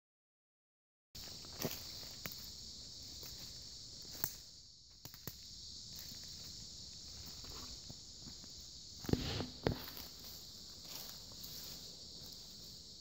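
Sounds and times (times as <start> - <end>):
high-pitched insect chorus: 1.2 - 13.0.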